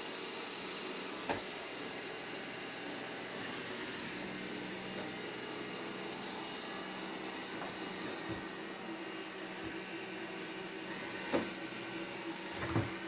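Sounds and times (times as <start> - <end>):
robot vacuum cleaner humming: 0.1 - 13.0.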